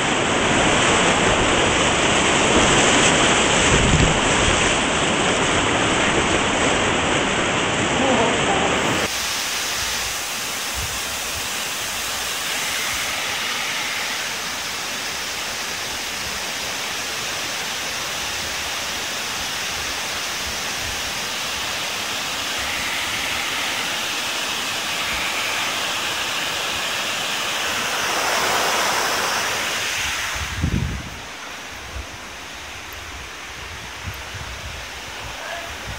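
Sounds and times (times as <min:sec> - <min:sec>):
water rushing over a weir: 0:00.0 - 0:35.9.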